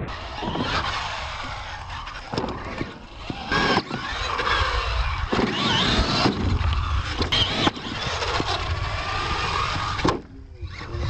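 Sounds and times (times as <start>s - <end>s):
low rumble: 0.0s - 11.0s
toy truck motor whining: 0.0s - 11.0s.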